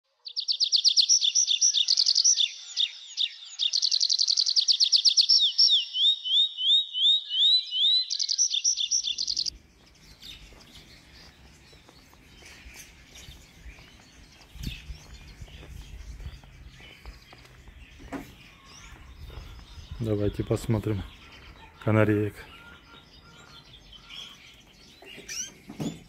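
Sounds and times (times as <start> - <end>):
faint outdoor background: 0.0 - 26.0
songbird singing trills: 0.1 - 26.0.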